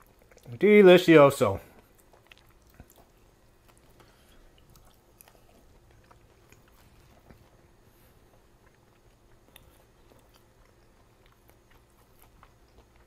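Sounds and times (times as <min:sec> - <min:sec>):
chewing fried fish: 0:00.0 - 0:13.0.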